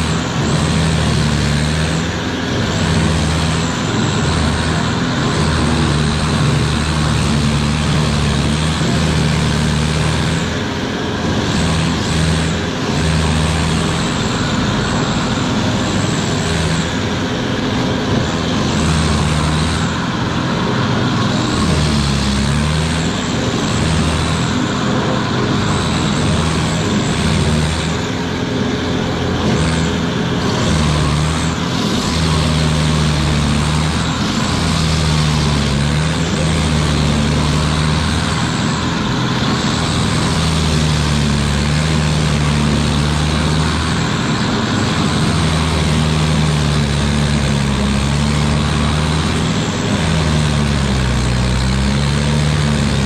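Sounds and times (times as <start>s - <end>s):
stump grinder grinding wood: 0.0s - 53.0s.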